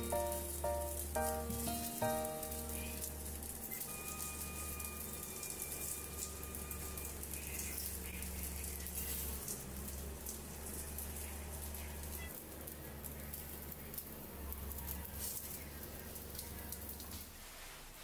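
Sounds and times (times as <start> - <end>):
dumplings sizzling in hot oil: 0.0 - 18.0.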